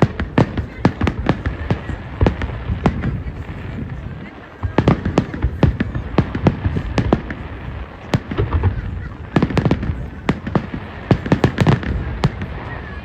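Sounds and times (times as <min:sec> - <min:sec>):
fireworks bangs and cracks: 0:00.0 - 0:13.0
low rumble of distant fireworks: 0:00.0 - 0:13.0.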